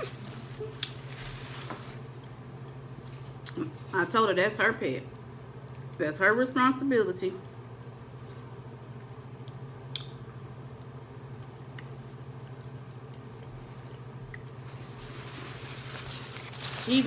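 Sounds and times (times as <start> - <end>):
soft chewing and mouth sounds: 0.0 - 3.9, 5.1 - 6.0, 7.4 - 16.9
steady low hum: 0.0 - 17.0.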